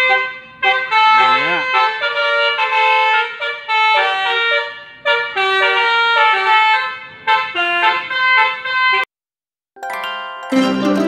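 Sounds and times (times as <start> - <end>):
multi-tone musical air horn: 0.0 - 9.0.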